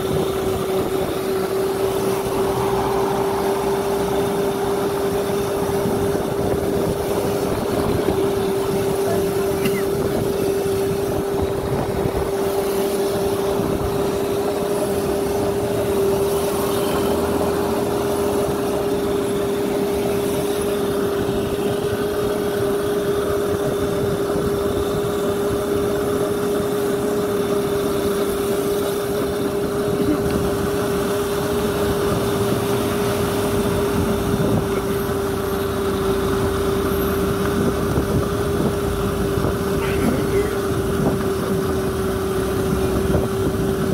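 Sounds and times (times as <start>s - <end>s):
electric motor whine: 0.0s - 43.9s
wind and road rumble: 0.0s - 43.9s.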